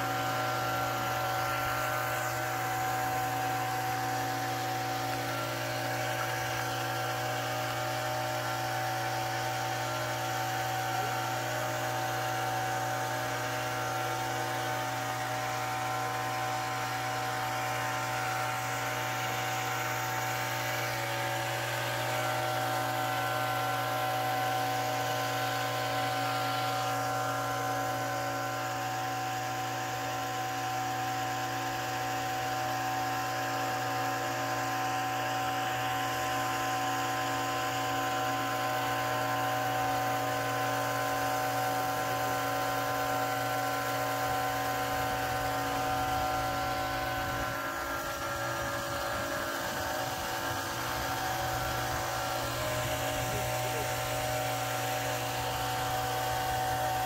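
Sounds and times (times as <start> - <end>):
engine-driven water pump running: 0.0 - 57.0.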